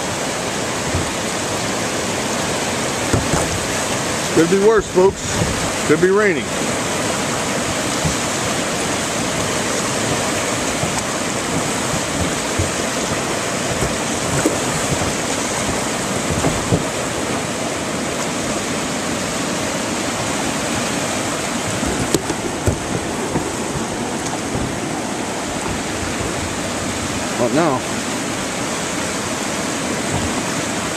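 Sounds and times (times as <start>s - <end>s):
river rapids rushing over rocks: 0.0s - 30.9s.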